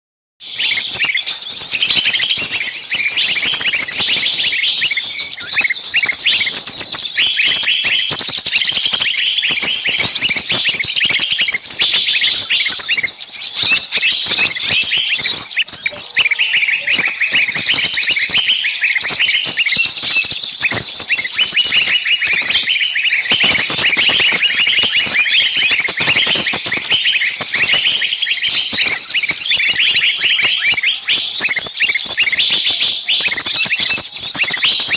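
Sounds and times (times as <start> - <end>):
small birds alarm calls: 0.4 - 34.9.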